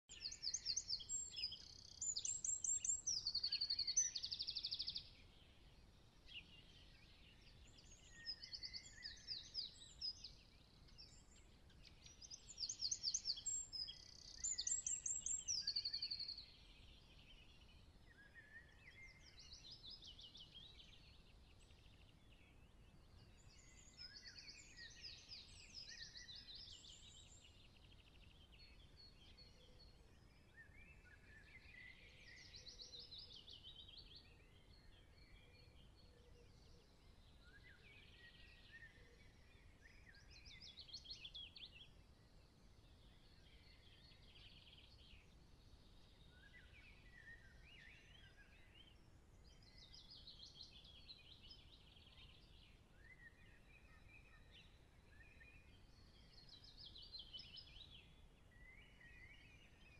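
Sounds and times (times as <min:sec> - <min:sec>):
songbirds twittering and trilling: 0:00.0 - 0:59.9.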